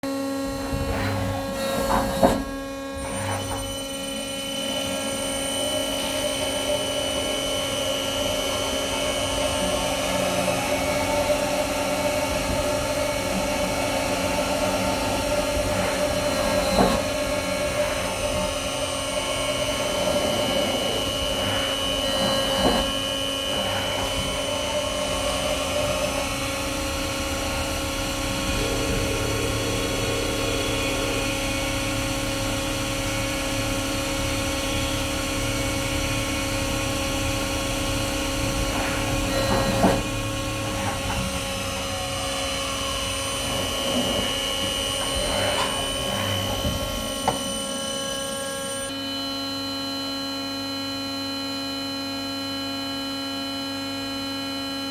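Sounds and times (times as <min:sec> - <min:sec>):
machine whine over hum: 0:00.1 - 0:54.9.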